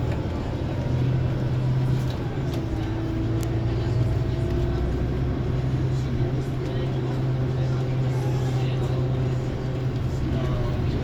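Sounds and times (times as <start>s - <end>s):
coach engine droning: 0.0s - 11.0s.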